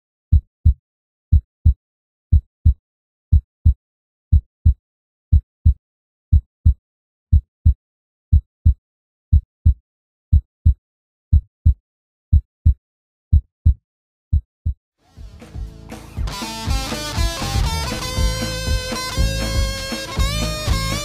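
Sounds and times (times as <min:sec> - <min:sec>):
heartbeat thumps: 0:00.3 - 0:21.0.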